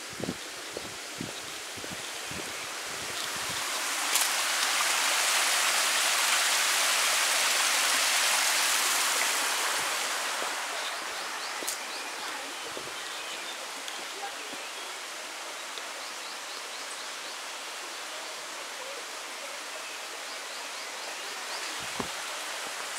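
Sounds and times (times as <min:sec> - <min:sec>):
stream water rushing: 0:00.0 - 0:22.9.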